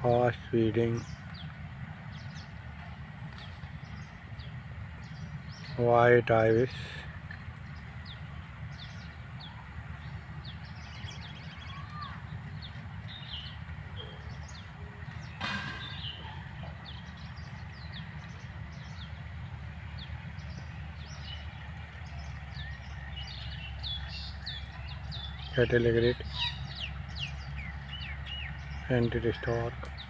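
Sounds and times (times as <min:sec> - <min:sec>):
small birds chirping: 0:00.0 - 0:30.0
steady low rumble: 0:00.0 - 0:30.0.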